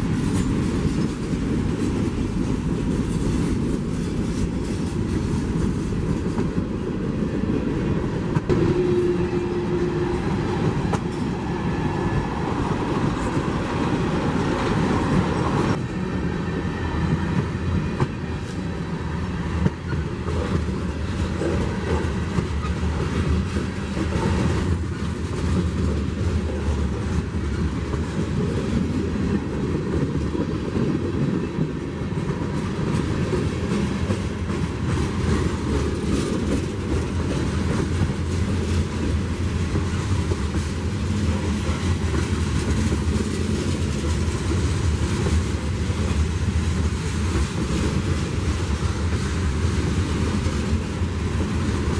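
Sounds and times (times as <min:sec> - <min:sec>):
train wheels on track: 0:00.0 - 0:51.9.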